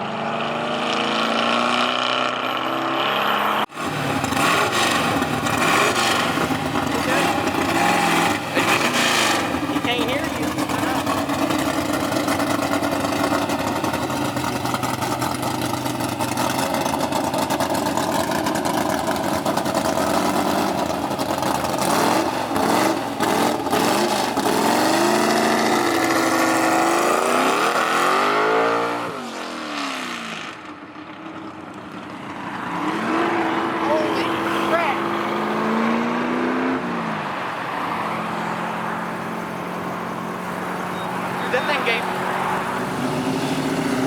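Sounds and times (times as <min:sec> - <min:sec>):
car engine revving: 0:00.0 - 0:30.7, 0:31.3 - 0:44.0.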